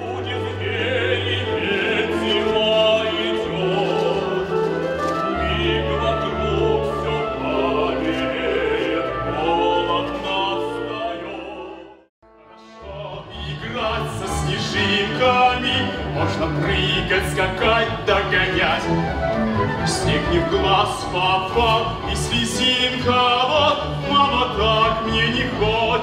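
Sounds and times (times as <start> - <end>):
orchestra with singing voices: 0.0 - 26.0.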